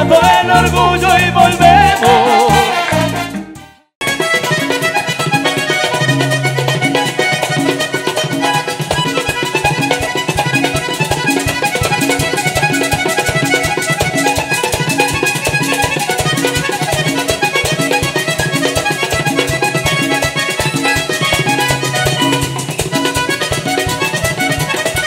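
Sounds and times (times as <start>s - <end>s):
bass and hand percussion beat: 0.0s - 25.0s
button accordion playing: 0.0s - 25.0s.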